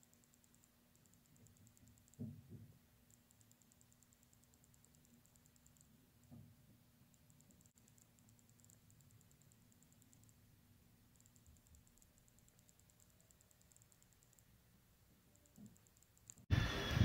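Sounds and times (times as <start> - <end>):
fast soft high-pitched ticking: 0.0 - 2.3, 3.0 - 6.4, 7.1 - 16.5
faint steady hum: 0.0 - 17.0.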